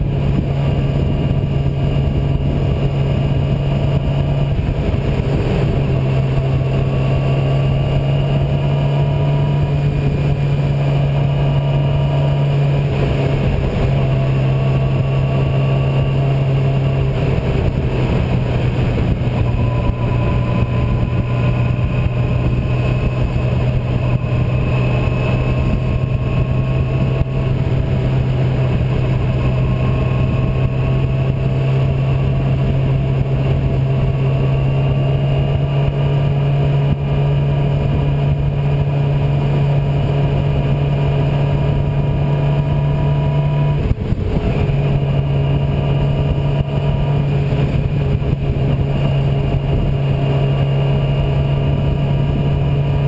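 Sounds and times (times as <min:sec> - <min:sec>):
motorcycle engine cruising: 0:00.0 - 0:53.0
wind rush over microphone: 0:00.0 - 0:53.0.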